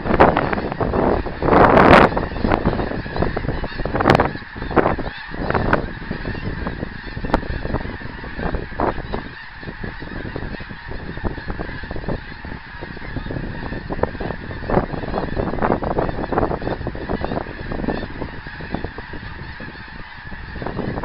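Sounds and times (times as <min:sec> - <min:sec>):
geese honking: 0:00.0 - 0:21.0.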